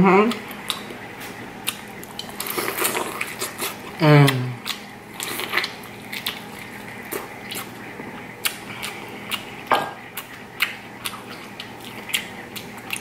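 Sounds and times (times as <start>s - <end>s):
chewing corn on the cob: 0.3s - 13.0s.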